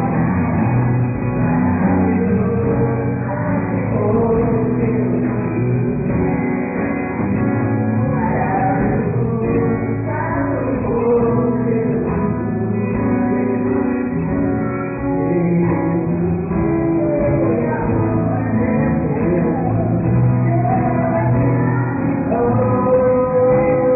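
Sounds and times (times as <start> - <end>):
live band with singer: 0.0 - 23.9.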